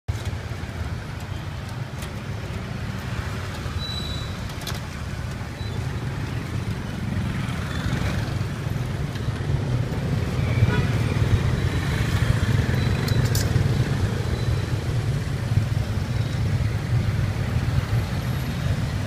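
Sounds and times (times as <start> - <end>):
low rumble of street traffic: 0.1 - 19.0.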